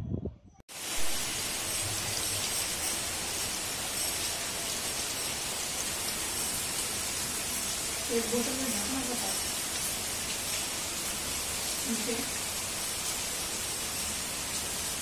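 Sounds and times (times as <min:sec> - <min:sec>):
steady rain hiss: 0:00.7 - 0:15.0.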